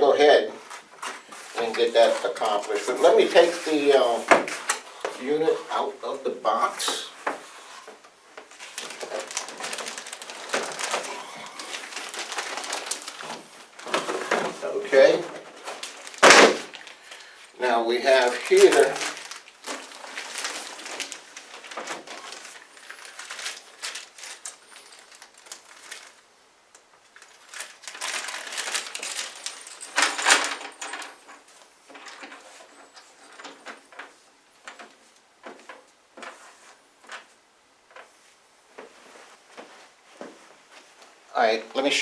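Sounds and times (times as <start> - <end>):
packing material rustling: 0.6 - 5.9, 6.5 - 38.2.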